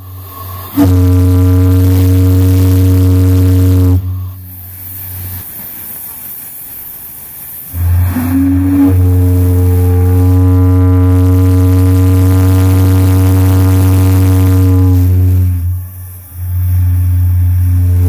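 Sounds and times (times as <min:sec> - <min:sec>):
deep steam whistle blast: 0:00.0 - 0:18.0.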